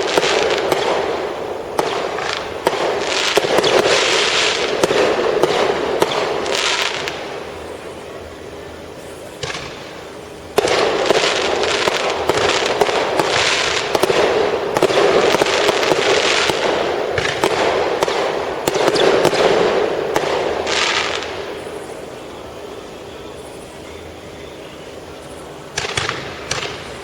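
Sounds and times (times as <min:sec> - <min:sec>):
fireworks cracking and crackling: 0:00.0 - 0:27.0
loud firework burst: 0:00.0 - 0:27.0.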